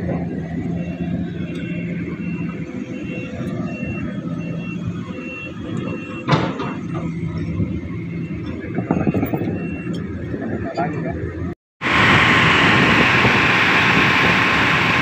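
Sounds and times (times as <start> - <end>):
heavy machinery noise: 0.0 - 15.0.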